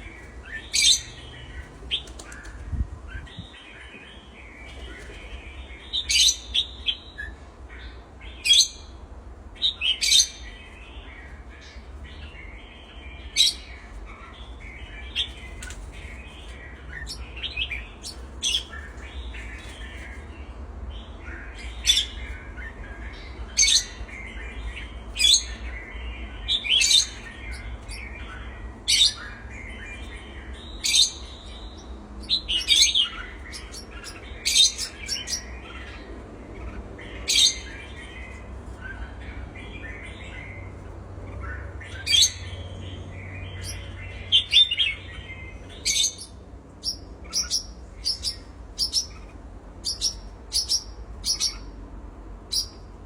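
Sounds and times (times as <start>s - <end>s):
cage birds chirping and squawking: 0.0s - 53.0s.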